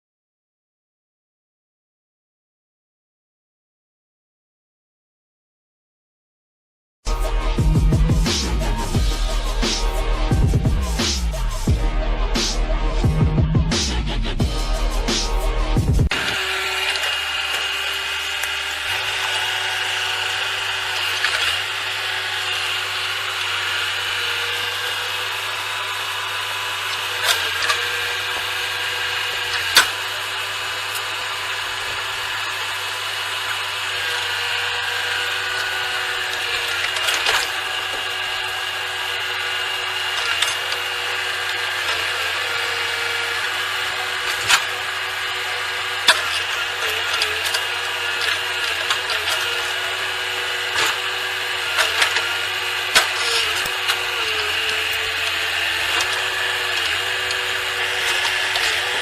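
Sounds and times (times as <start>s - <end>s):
machine motor whining: 7.1s - 59.0s.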